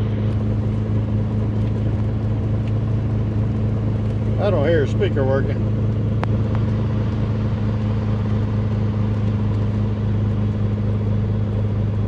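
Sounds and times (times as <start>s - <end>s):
piston aircraft engine and propeller: 0.0s - 12.0s.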